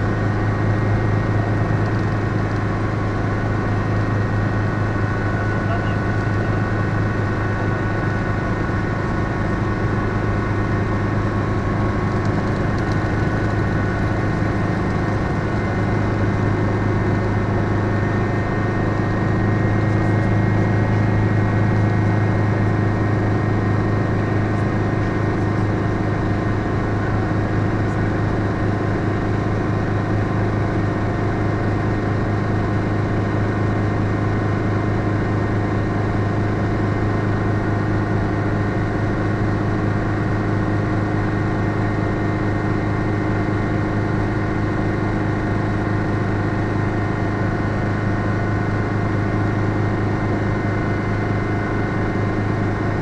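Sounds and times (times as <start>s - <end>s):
helicopter engine and rotors droning: 0.0s - 53.0s.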